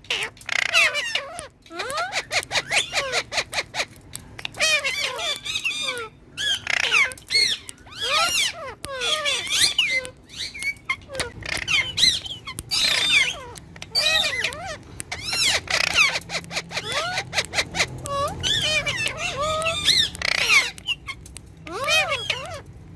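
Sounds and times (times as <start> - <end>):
parakeet chirps and squawks: 0.0 - 22.9.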